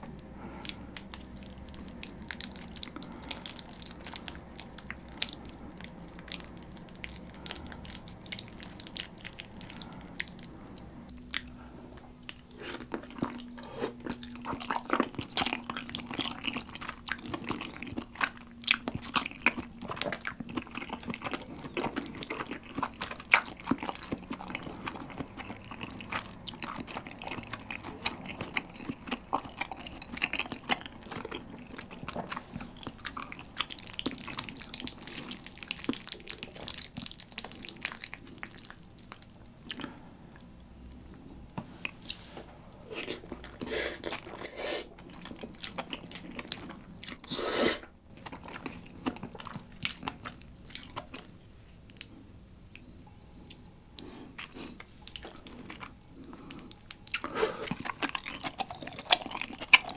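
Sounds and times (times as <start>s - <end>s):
wet chewing and smacks: 0.0s - 41.2s, 41.8s - 47.4s, 48.1s - 59.9s.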